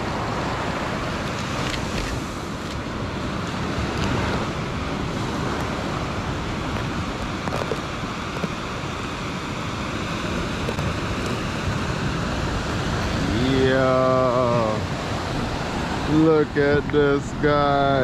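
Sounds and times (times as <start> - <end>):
surf washing: 0.0 - 18.0
wind on microphone: 0.0 - 18.0.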